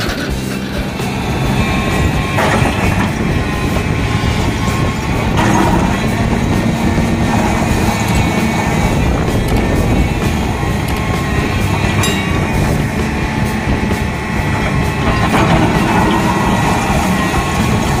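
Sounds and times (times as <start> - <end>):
excavator diesel engine running: 0.0 - 18.0
rocks grinding against steel bucket: 0.0 - 18.0.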